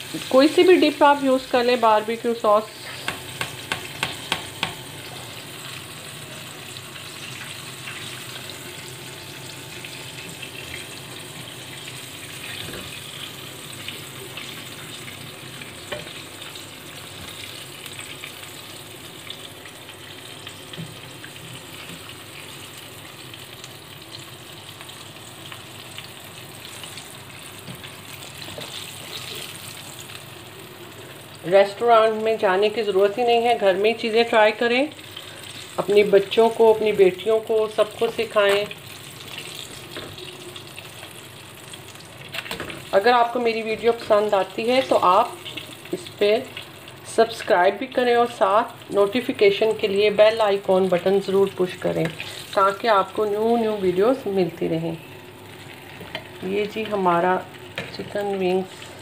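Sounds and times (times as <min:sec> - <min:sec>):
chicken frying sizzle: 0:00.0 - 0:59.0.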